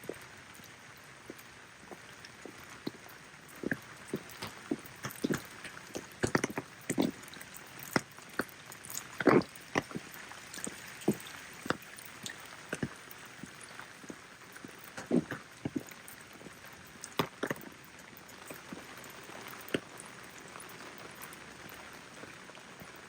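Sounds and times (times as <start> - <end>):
faint rain patter: 0.0 - 23.0.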